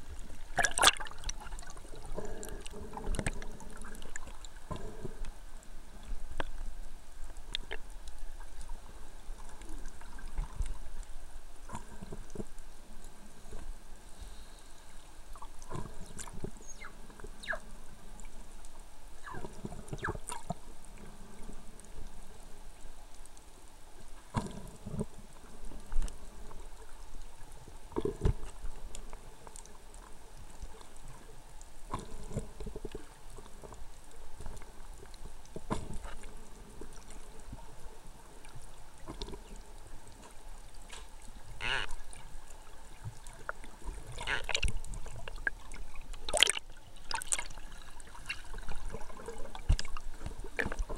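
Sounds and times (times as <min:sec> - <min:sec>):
underwater bubbling: 0:00.0 - 0:50.9.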